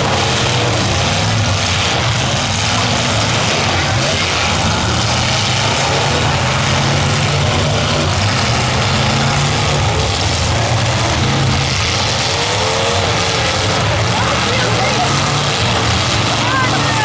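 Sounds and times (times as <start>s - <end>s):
loud car engines running: 0.0s - 17.0s.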